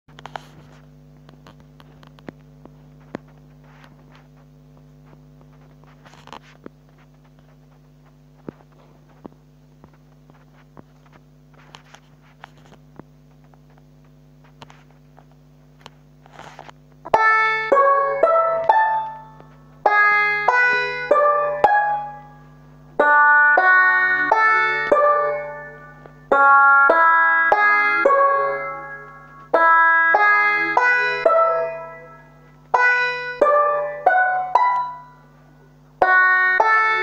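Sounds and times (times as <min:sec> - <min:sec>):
low electrical hum: 0:00.1 - 0:37.0.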